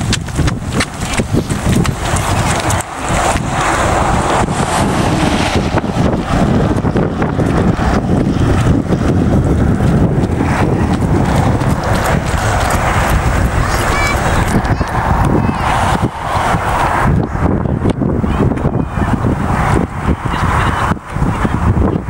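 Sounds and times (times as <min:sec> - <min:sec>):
footsteps slapping on asphalt: 0:00.0 - 0:18.7
wind buffeting microphone: 0:00.0 - 0:22.0.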